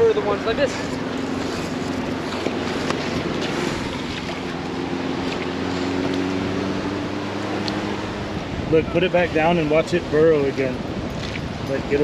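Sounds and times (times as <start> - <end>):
low engine hum: 0.0 - 12.0
surf washing over sand: 0.0 - 12.0
wind on microphone: 0.0 - 12.0.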